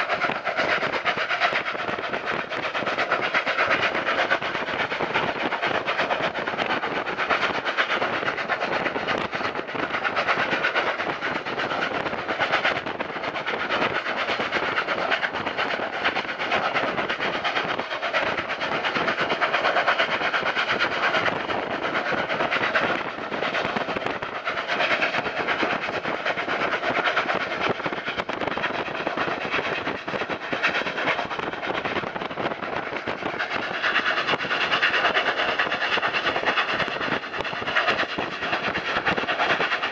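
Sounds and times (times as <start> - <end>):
train on rails: 0.0 - 39.9.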